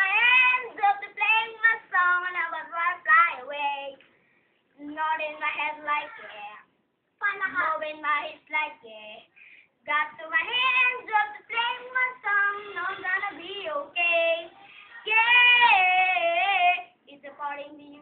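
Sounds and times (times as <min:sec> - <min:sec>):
boy singing unaccompanied: 0:00.0 - 0:04.0, 0:04.8 - 0:18.0.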